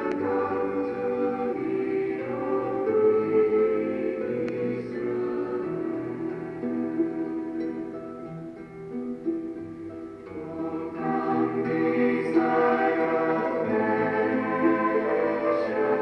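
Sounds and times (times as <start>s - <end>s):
choir singing sacred music: 0.0s - 8.6s, 10.2s - 16.0s
sustained instrumental chords: 0.0s - 16.0s.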